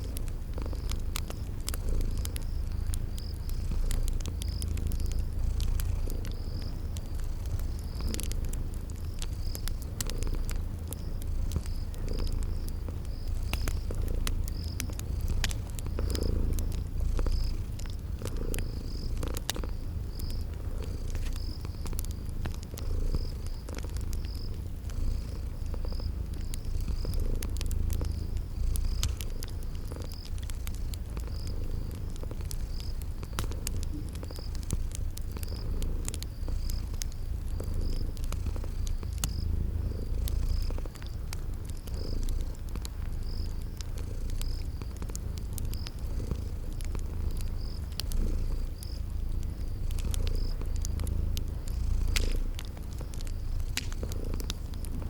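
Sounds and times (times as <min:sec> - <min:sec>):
cat purring: 0:00.0 - 0:55.0
crickets chirping: 0:00.0 - 0:55.0
wood fire crackling: 0:00.0 - 0:55.0.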